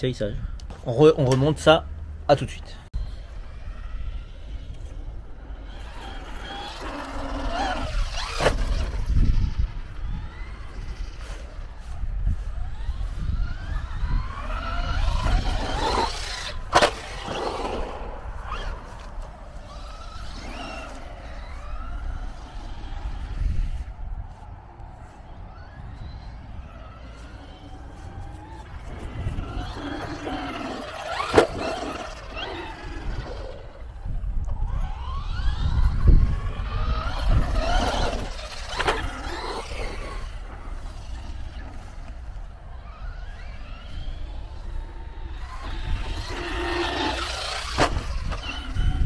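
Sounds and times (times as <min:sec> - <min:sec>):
electric motor whining: 0:03.0 - 0:49.0
wind rumble on microphone: 0:03.0 - 0:49.0.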